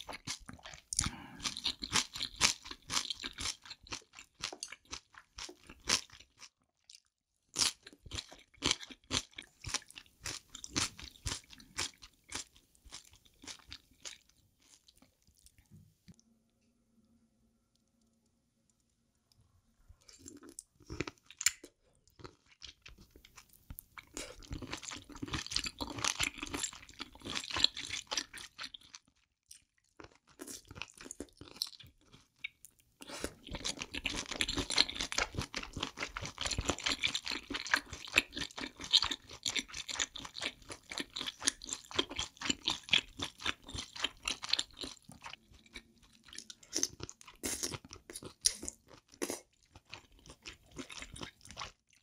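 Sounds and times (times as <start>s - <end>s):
wet crunchy chewing: 0.0s - 15.6s, 20.0s - 52.0s.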